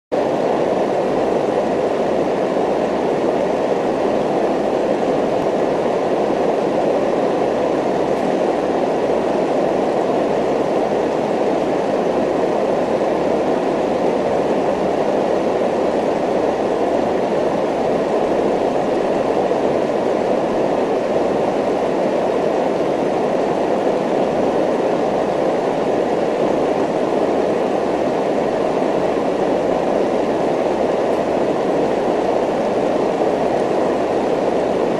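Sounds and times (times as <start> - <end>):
rumbling ambient noise: 0.2 - 34.9.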